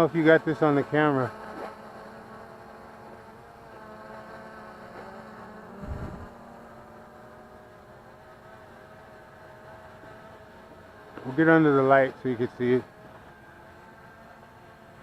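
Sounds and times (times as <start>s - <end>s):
drone motors humming: 0.0s - 15.0s.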